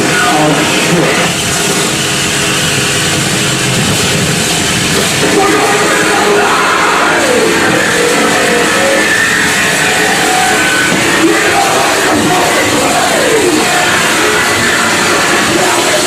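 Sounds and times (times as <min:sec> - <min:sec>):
harsh distorted noise music: 0:00.0 - 0:16.0
wavering squealing tones: 0:00.0 - 0:16.0.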